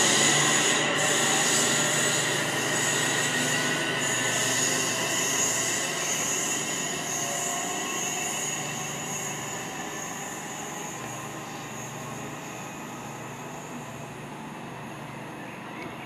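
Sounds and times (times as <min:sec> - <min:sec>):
wheels squealing on curve: 0:00.0 - 0:14.0
electric train running: 0:00.0 - 0:16.0.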